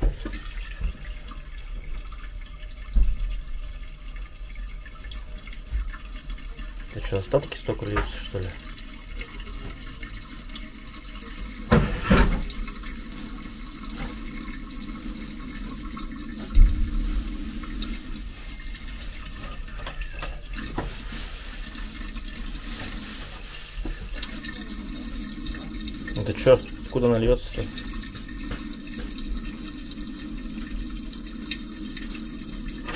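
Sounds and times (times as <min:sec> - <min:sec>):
water draining from pipe: 0:00.0 - 0:32.9.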